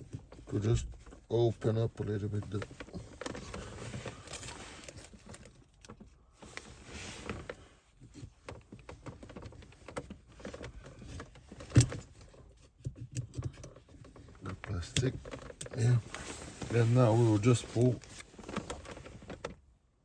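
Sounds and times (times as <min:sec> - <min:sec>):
rustling handling noise: 0:00.0 - 0:19.7.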